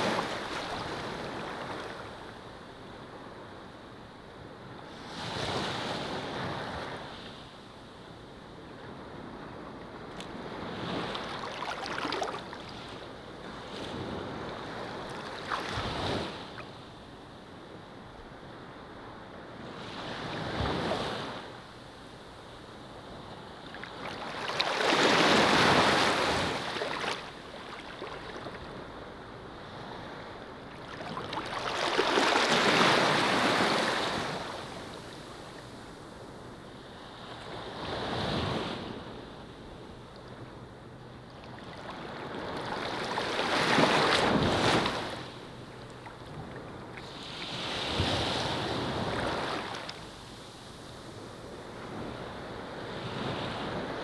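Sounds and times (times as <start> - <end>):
ocean surf on sandy shore: 0.0 - 7.9, 8.5 - 54.0.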